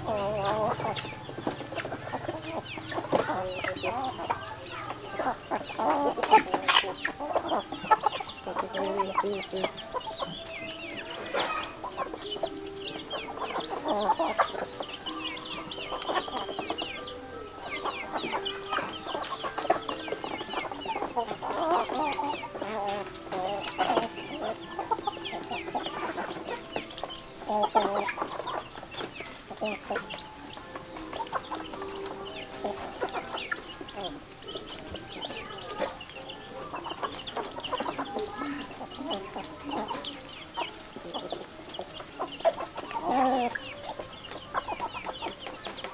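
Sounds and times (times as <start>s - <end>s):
chickens clucking and calling: 0.0s - 45.9s.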